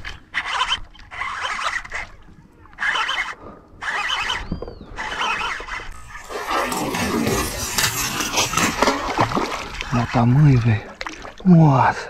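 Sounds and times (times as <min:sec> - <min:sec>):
fishing reel whirring: 0:00.0 - 0:10.2.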